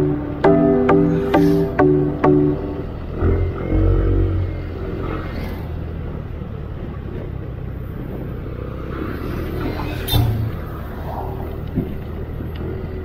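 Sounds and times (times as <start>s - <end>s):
motorcycle engine rumble: 0.0s - 13.0s
road and wind noise: 0.0s - 13.0s.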